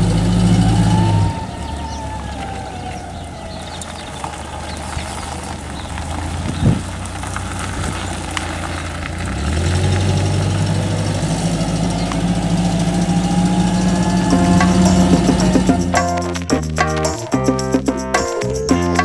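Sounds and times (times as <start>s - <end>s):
forklift engine running: 0.0s - 16.6s.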